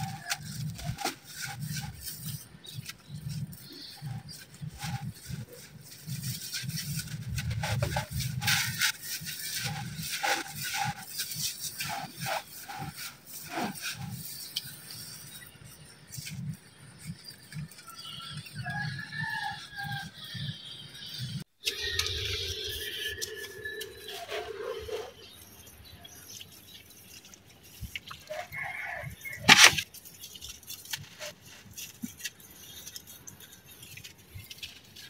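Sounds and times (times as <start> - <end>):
hand scraping gritty grains: 0.0 - 20.0, 21.6 - 35.0.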